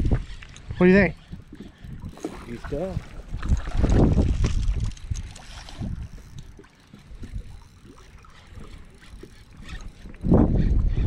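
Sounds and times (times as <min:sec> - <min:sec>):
waves lapping against hull: 0:00.0 - 0:11.0
wind buffeting microphone: 0:00.0 - 0:11.0.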